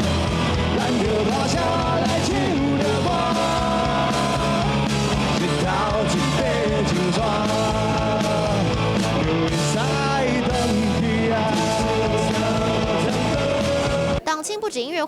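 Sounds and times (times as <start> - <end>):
person singing with rock band: 0.0 - 14.2.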